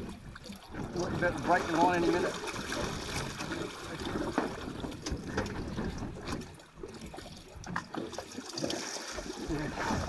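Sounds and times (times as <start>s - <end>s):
water slapping against hull: 0.0s - 10.0s.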